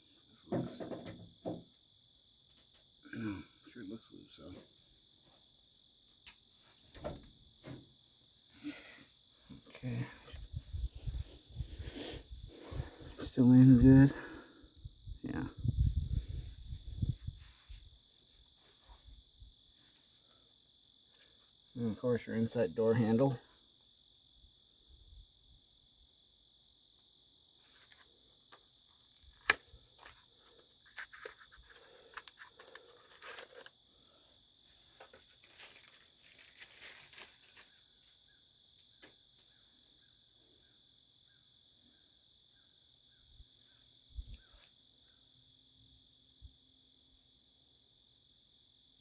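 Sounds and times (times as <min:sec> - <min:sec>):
crickets chirring: 0:00.0 - 0:49.0.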